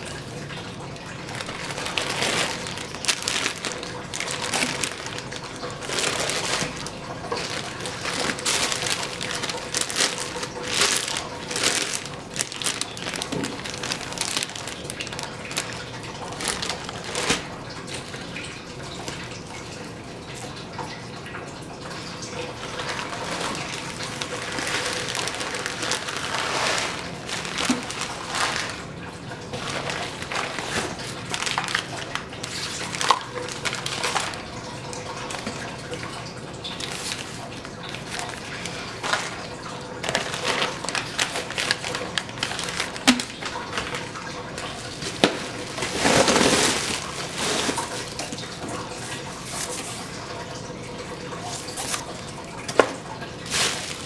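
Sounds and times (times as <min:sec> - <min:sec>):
foil insulation crinkling: 0:00.0 - 0:19.3, 0:22.4 - 0:36.0, 0:36.6 - 0:50.2, 0:51.4 - 0:54.0
paper bags rustling: 0:00.0 - 0:19.4, 0:22.2 - 0:50.6, 0:51.3 - 0:54.0.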